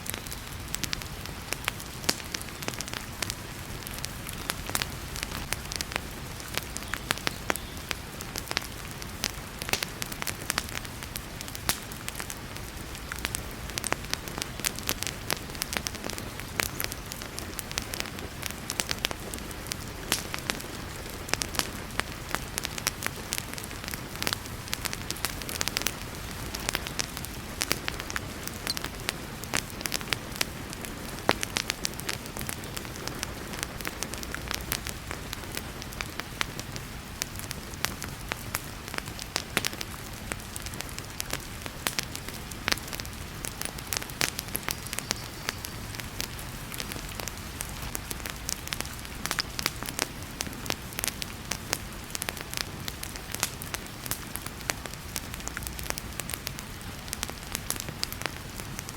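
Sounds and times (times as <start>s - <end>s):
heavy rain: 0.0s - 58.9s
wood fire crackling and popping: 0.0s - 58.9s.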